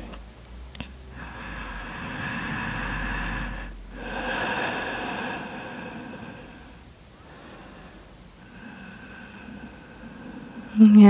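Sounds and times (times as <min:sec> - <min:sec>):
person breathing deeply: 0:01.1 - 0:10.8.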